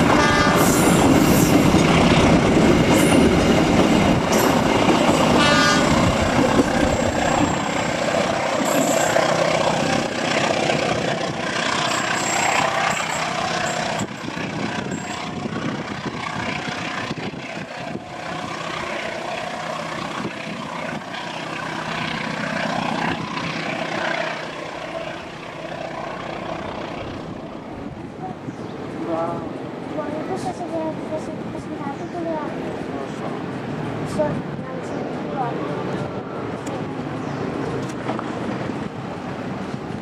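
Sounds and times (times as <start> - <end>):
distant locomotive drone: 0.0 - 40.0
train coaches rumbling on rails: 0.0 - 40.0.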